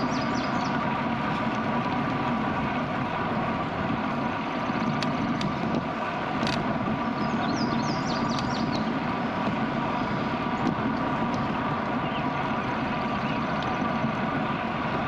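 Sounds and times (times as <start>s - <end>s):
bicycle tyres rolling on road: 0.0s - 15.0s
wind on microphone: 0.0s - 15.0s.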